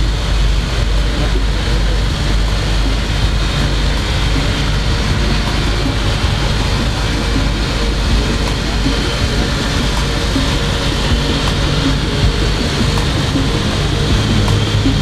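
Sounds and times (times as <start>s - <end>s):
engine room machinery running: 0.0s - 15.0s.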